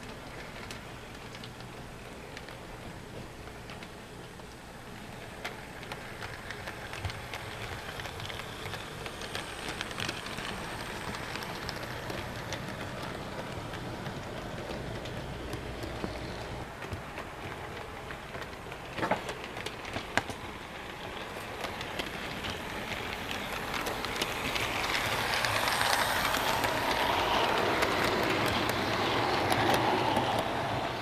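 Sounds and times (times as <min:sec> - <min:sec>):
model train rolling whir: 0:00.0 - 0:31.0
wheels clicking on rail: 0:00.0 - 0:31.0.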